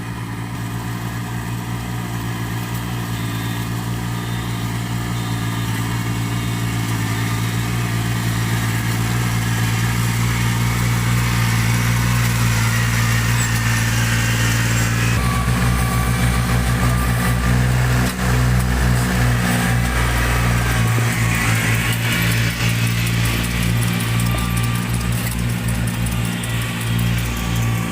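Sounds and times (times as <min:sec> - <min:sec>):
farm machine engine running: 0:00.0 - 0:27.9.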